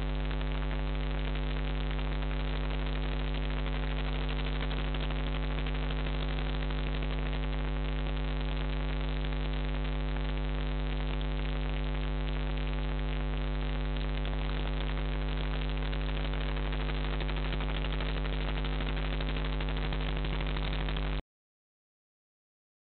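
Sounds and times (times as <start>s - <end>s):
electrical mains hum: 0.0s - 21.2s.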